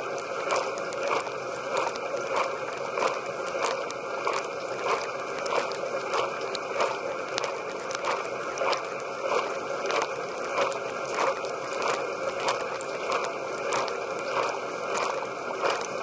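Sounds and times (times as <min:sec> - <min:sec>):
dishwasher water jets spraying: 0:00.0 - 0:16.0.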